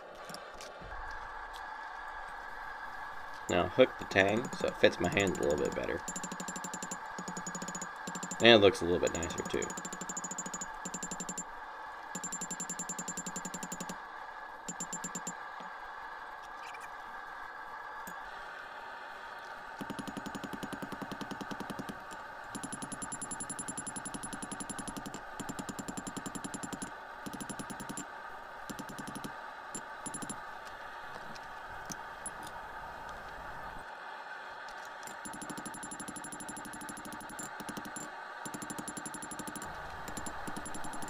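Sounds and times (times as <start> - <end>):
steady background drone: 0.0 - 41.0.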